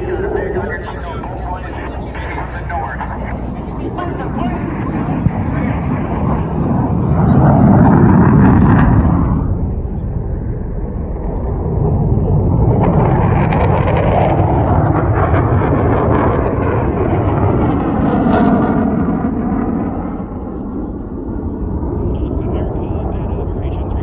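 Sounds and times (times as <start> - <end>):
fighter jet flying past: 0.0 - 24.0.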